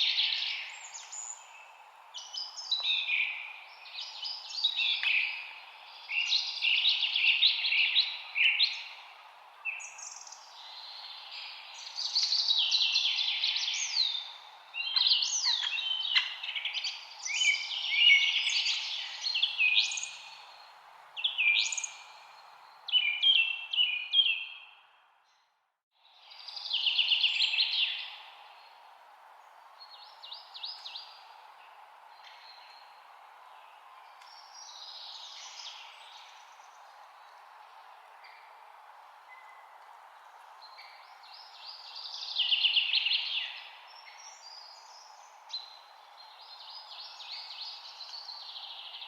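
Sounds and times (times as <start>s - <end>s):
steady background hiss: 0.0s - 23.8s, 26.0s - 49.0s
songbirds chirping and trilling: 0.0s - 49.0s.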